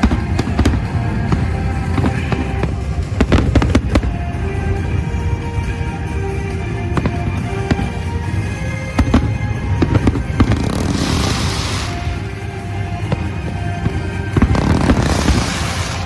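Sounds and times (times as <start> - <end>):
fireworks bangs: 0.0 - 4.9, 6.8 - 16.0
hissing crackle of fireworks: 0.0 - 5.0, 6.7 - 16.0
music with sustained tones: 0.0 - 16.0.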